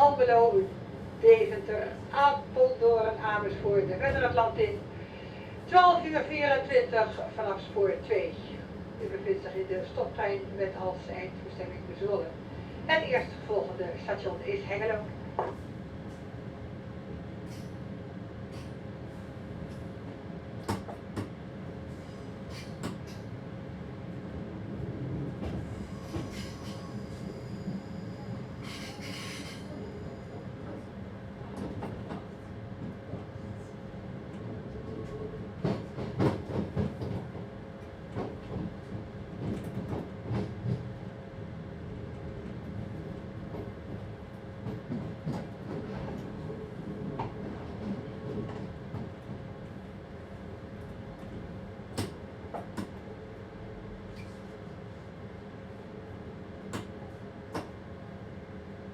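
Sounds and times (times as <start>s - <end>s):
train rumble and hum: 0.0s - 58.9s.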